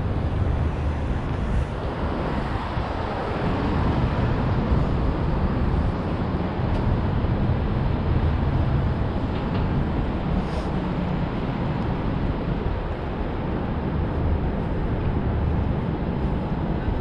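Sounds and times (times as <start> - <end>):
low rumbling street noise: 0.0 - 17.0.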